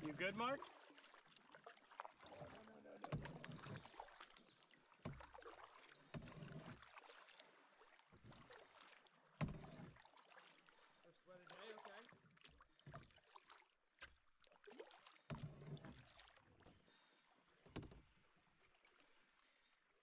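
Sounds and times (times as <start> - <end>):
canoe paddle strokes in water: 0.0 - 20.0.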